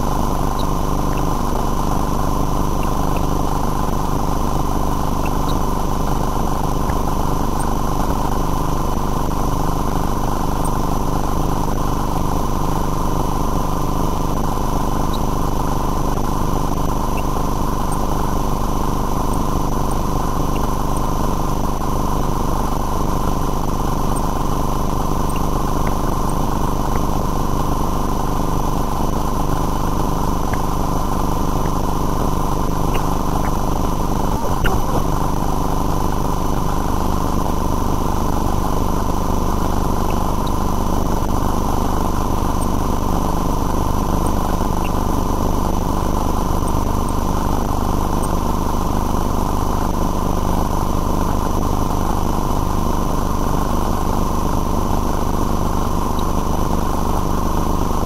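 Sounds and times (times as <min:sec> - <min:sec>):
motor droning: 0:00.0 - 0:58.0
thin electrical whine: 0:00.0 - 0:58.0.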